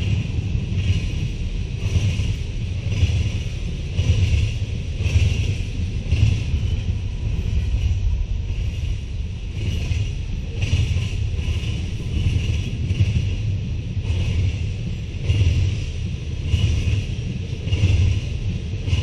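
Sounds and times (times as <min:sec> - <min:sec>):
freight train wheels rumbling: 0:00.0 - 0:19.0
rhythmic wheel clatter: 0:00.0 - 0:19.0.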